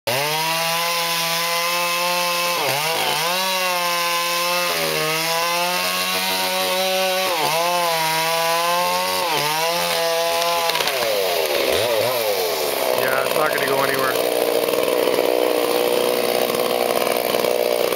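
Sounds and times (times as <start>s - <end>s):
chainsaw cutting wood: 0.1s - 17.9s.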